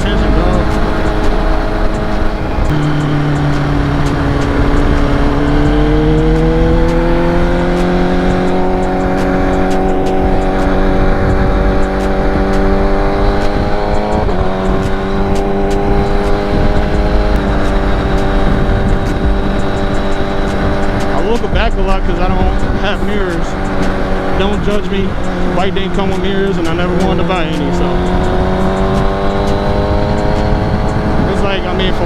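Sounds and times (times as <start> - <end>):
motorcycle engine accelerating: 0.0 - 32.0
wind rush: 0.0 - 32.0.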